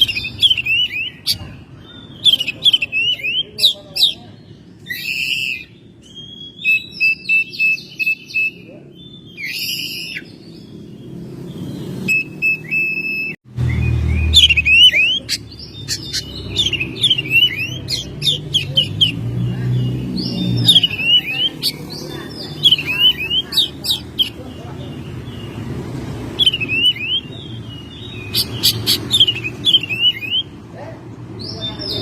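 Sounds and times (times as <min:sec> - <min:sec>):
bird singing whistled notes: 0:00.0 - 0:24.4, 0:26.3 - 0:30.6.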